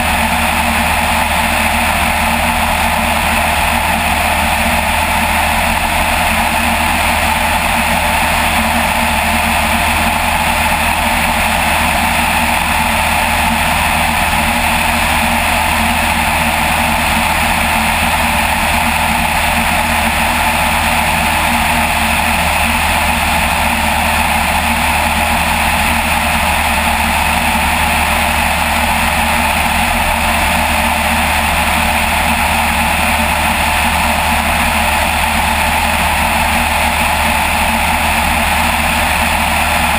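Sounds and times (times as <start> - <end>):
small aircraft engine drone: 0.0 - 39.9.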